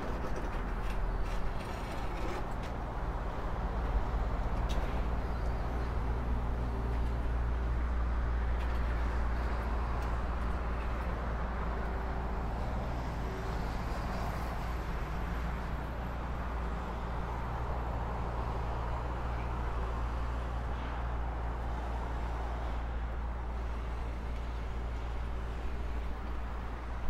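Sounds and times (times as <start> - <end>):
low traffic rumble: 0.0 - 27.0
tyre noise of passing cars: 0.0 - 27.0.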